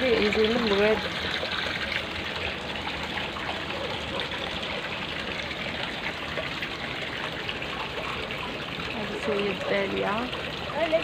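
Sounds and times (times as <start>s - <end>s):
water flowing along a channel: 0.0s - 11.0s.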